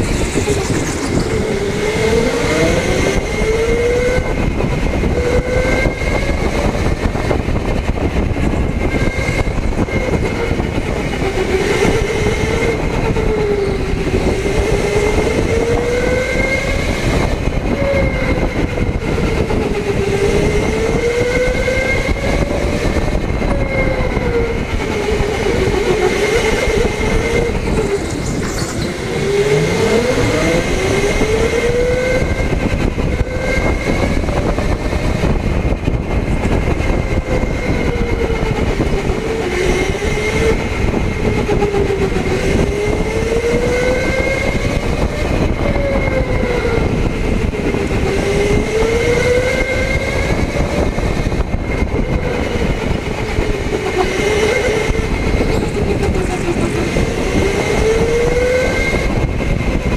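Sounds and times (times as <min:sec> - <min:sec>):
steady higher whine: 0:00.0 - 0:59.8
electric go-kart motor whining: 0:00.0 - 0:59.9
tyres rumbling on track: 0:00.0 - 0:59.9.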